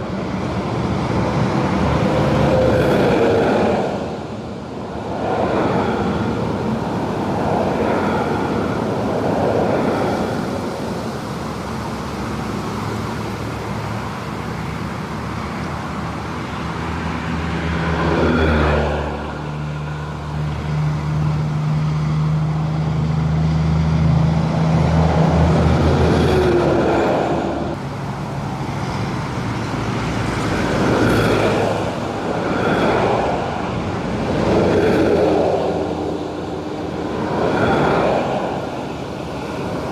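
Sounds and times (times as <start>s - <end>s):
cars and trucks passing: 0.0s - 39.9s
truck engine droning: 0.0s - 39.9s.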